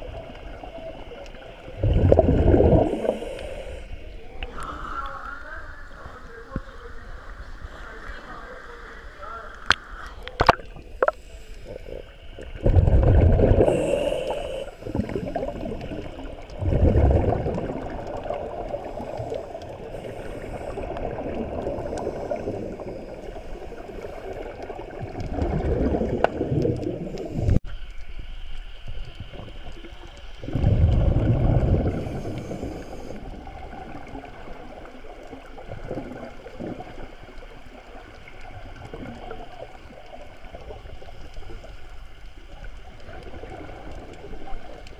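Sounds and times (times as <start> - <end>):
underwater bubbles bursting: 0.0 - 3.8, 9.6 - 27.6, 29.1 - 41.6, 42.7 - 44.9
faint steady hiss: 0.0 - 44.9.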